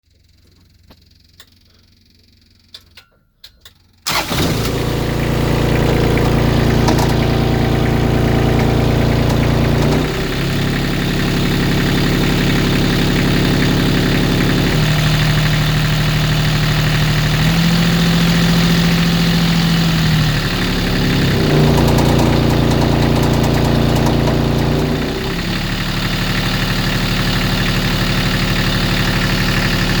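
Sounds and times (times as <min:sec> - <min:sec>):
diesel engine starting and running: 0:04.0 - 0:30.0
engine knocking at idle: 0:04.8 - 0:30.0.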